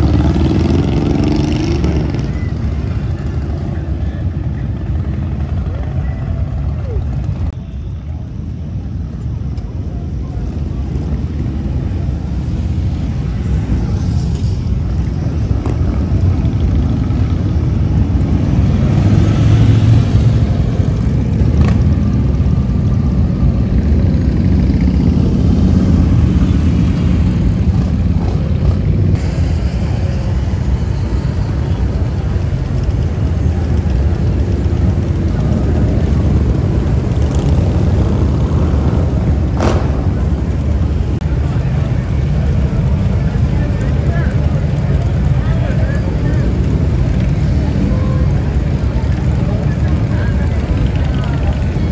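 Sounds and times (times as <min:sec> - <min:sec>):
motorcycle engines running: 0:00.0 - 0:51.9.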